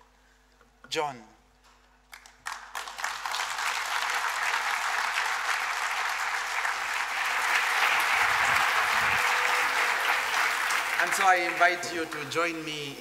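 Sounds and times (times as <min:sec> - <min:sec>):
audience applauding: 0:02.1 - 0:12.9.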